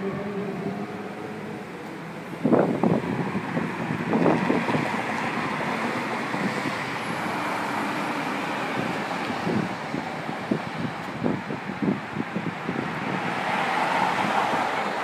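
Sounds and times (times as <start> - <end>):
road traffic: 0.0 - 15.0
wind on microphone: 0.0 - 15.0.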